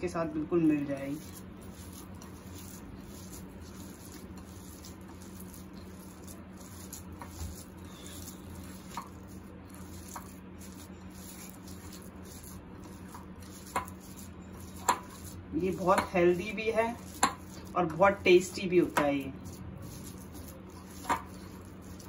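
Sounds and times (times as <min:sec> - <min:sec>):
steady low hum: 0:00.0 - 0:22.0
soft squishing of mashed food: 0:00.1 - 0:22.0.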